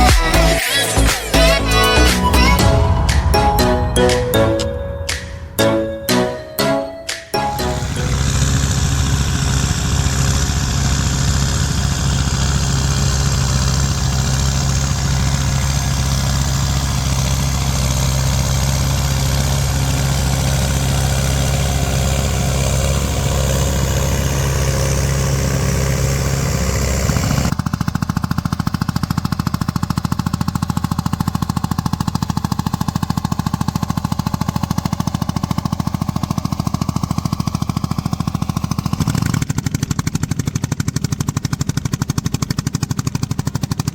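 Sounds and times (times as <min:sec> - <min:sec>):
tractor engine running: 0:07.1 - 0:43.9.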